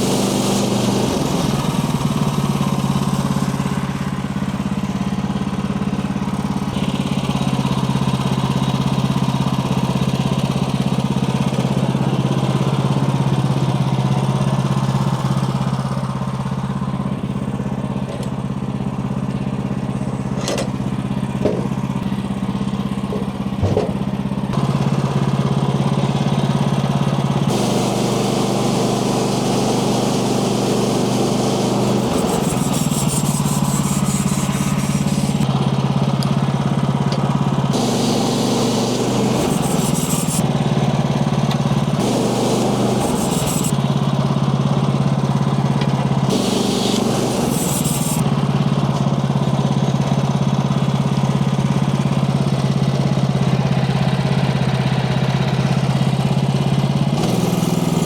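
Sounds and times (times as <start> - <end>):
gasoline engine running: 0.0 - 58.0.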